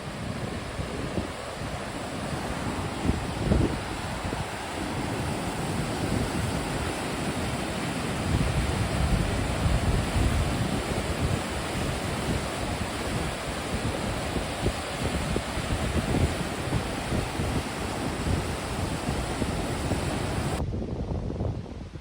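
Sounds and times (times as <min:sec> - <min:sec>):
waterfall rushing: 0:00.0 - 0:20.6
wind buffeting microphone: 0:00.0 - 0:22.0.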